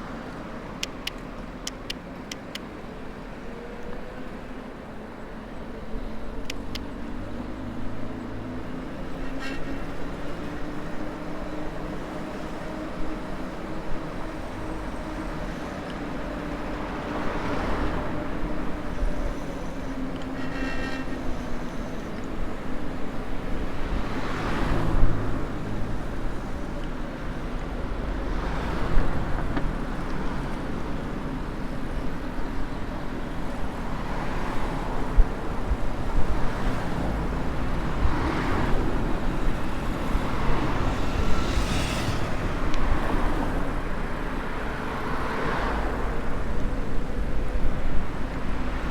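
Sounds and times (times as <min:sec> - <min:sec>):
cars passing: 0:00.0 - 0:48.9
wind and road noise: 0:00.0 - 0:48.9.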